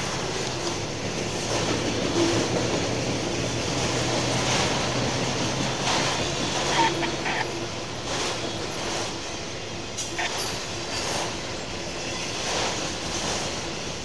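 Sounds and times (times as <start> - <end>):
freight train wheels on rails: 0.0 - 14.0.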